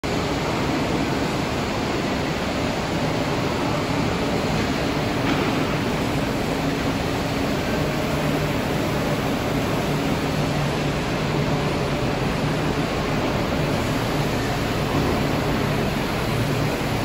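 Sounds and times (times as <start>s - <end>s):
steady machine noise: 0.0s - 17.0s.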